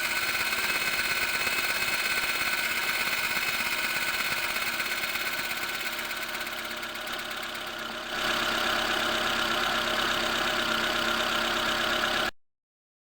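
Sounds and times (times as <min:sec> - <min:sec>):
clutch bearing whistle and hum: 0:00.0 - 0:12.3
car engine idling: 0:00.1 - 0:12.3.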